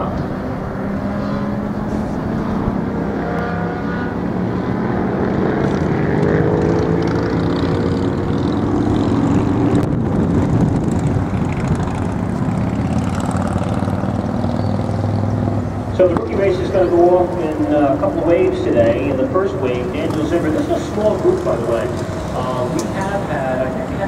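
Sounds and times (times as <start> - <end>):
racing motorcycle engines passing: 0.0 - 24.0.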